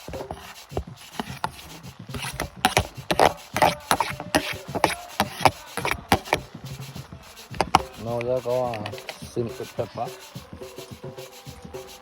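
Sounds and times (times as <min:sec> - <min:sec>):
scraping and knocking: 0:00.0 - 0:10.0.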